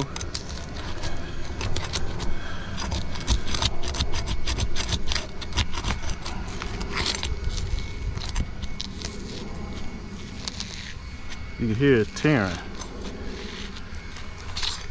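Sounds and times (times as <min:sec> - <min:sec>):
shingle crackling and tearing: 0:00.0 - 0:14.9.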